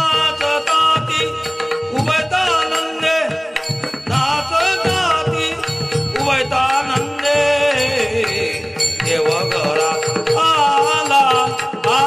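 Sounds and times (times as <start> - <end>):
drum beat: 0.0 - 12.0
hand cymbals: 0.0 - 12.0
voices singing devotional melody: 0.0 - 12.0.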